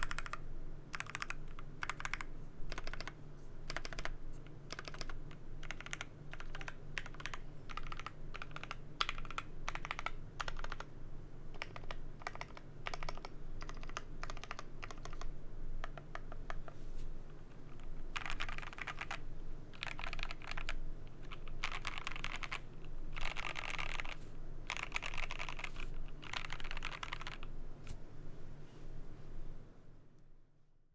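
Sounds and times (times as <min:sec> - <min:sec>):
mechanical keyboard typing: 0:00.0 - 0:10.9, 0:11.5 - 0:16.7, 0:18.1 - 0:27.5.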